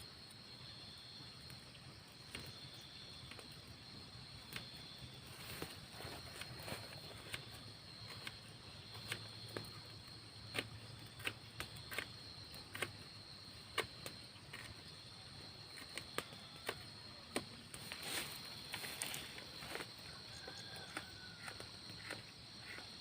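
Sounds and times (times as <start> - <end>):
high insect chirring: 0.0 - 23.0.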